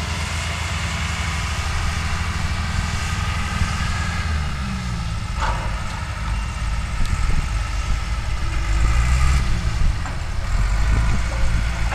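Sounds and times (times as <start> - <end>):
diesel engine droning: 0.0 - 11.9.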